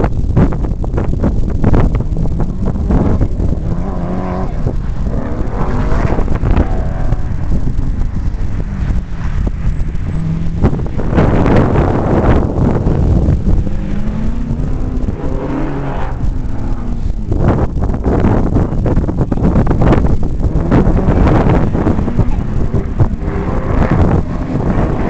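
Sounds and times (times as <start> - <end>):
car engine revving: 0.0 - 25.0
wind buffeting microphone: 0.0 - 25.0.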